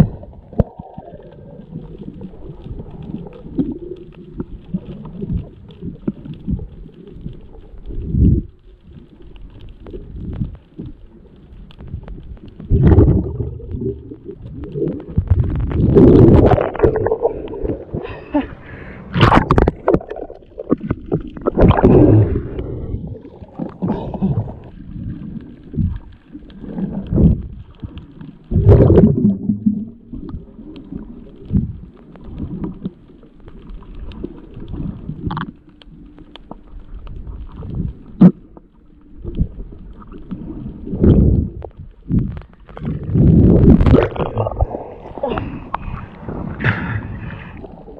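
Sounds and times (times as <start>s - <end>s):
low rumble: 0.0s - 47.9s
water gurgling and sloshing: 0.0s - 47.9s.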